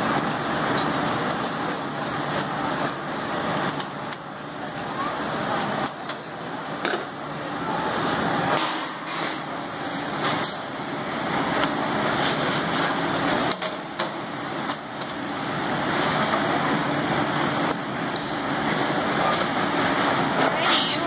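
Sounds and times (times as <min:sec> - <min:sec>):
ovens and ventilation rushing: 0:00.0 - 0:21.0.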